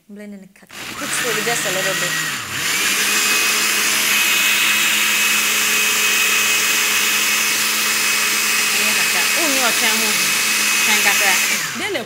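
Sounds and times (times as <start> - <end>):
blender motor whine: 0.7 - 12.0.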